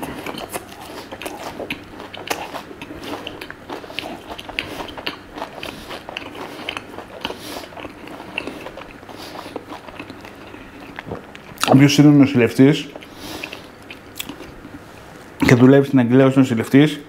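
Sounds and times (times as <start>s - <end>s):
person chewing crunchy food: 0.0s - 11.8s, 12.7s - 15.1s.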